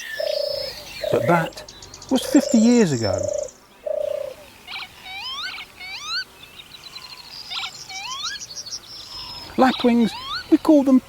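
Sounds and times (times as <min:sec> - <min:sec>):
lapwing calls: 0:00.0 - 0:11.0.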